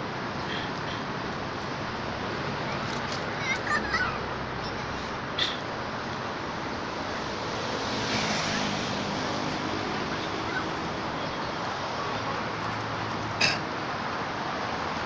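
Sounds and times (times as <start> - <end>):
outdoor background hiss and rumble: 0.0 - 15.0.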